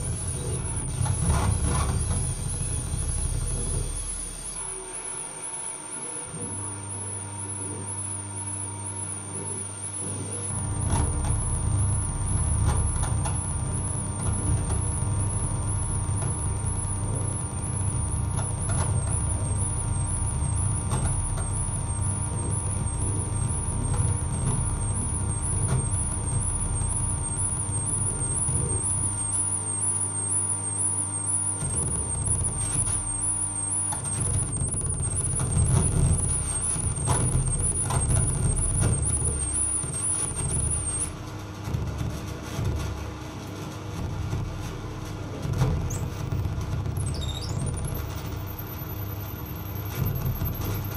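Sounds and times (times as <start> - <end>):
electronic drone: 0.0 - 41.2, 45.8 - 50.9.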